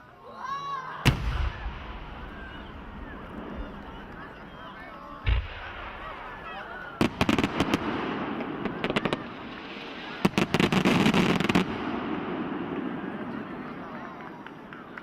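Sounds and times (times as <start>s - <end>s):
fireworks crackling: 1.1s - 15.0s.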